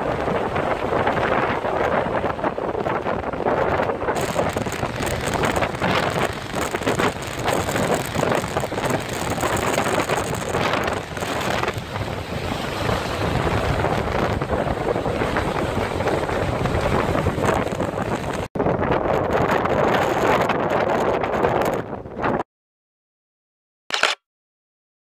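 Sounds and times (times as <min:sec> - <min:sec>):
gusting blizzard wind on microphone: 0:00.0 - 0:22.4.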